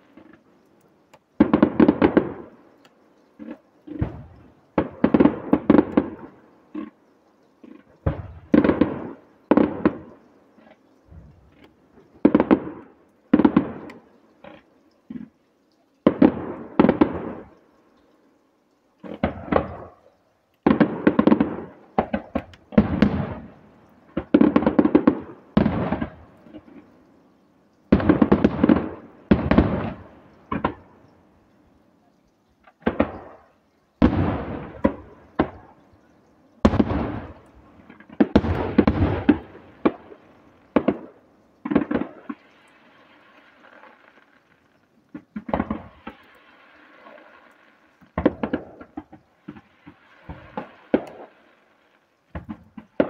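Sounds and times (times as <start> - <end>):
firework shells bursting: 0.0 - 7.0, 7.6 - 15.3, 16.0 - 18.3, 19.0 - 31.6, 32.5 - 53.0.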